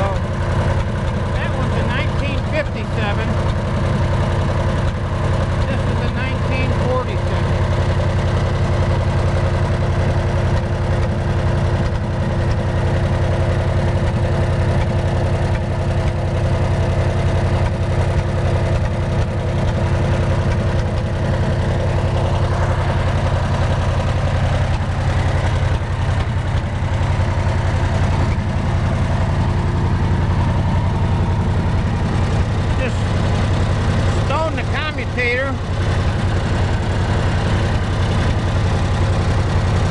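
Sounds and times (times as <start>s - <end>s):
welder engine running: 0.0s - 39.9s.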